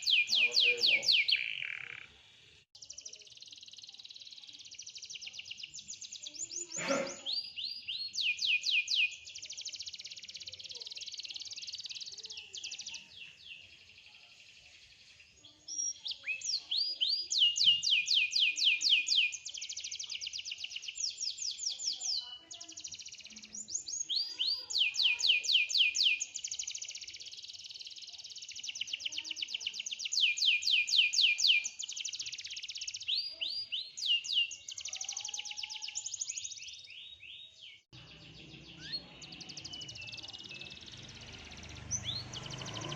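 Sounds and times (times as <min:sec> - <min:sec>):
canary singing trills: 0:00.0 - 0:02.2, 0:02.8 - 0:42.9.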